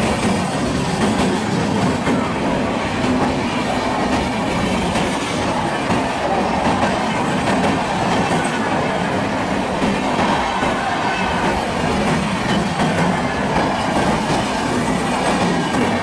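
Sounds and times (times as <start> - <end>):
train passing at speed: 0.0 - 16.0
wheels clacking over rail joints: 0.0 - 16.0.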